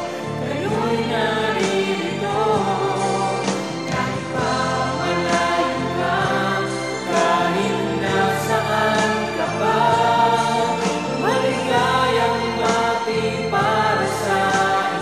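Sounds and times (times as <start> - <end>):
group of voices singing: 0.0 - 15.0
instrumental backing track: 0.0 - 15.0.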